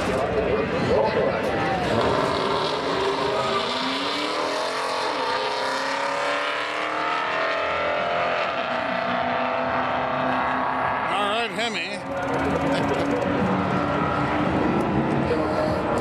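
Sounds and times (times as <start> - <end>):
cars accelerating hard: 0.0 - 16.0.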